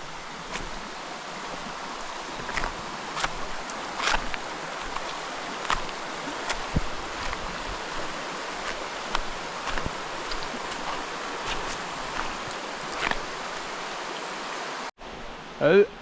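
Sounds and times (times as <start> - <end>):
sharp ticks and splashes: 0.0 - 14.4
creek water running: 0.0 - 15.5.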